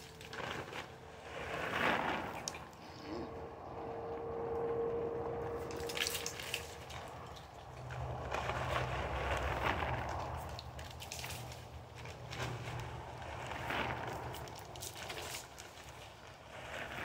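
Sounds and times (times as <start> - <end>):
low hum: 0.0 - 16.0
hogs rooting in dry leaves: 0.0 - 17.0.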